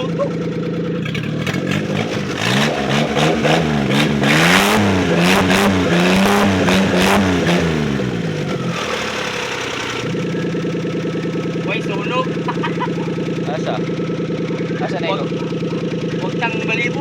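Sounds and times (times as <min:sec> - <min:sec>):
engine revving and idling: 0:00.0 - 0:17.0.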